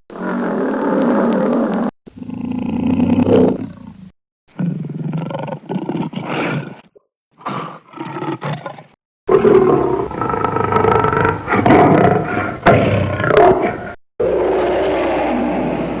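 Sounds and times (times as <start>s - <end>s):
lion roaring: 0.1s - 16.0s.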